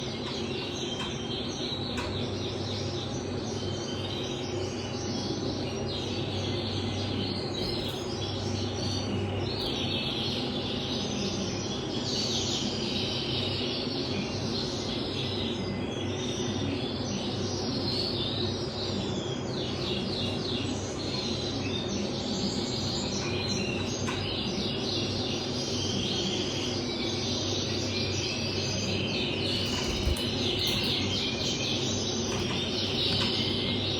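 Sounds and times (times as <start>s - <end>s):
canary singing trills: 0.0s - 33.9s
steady low hum: 0.0s - 33.9s.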